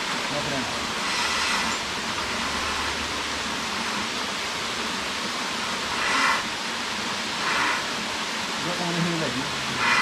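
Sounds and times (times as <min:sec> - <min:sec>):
waterfall and stream rushing: 0:00.0 - 0:10.0.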